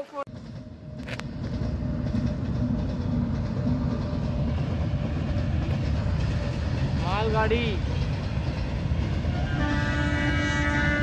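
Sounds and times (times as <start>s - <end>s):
goods train rumbling past: 0.0s - 11.0s.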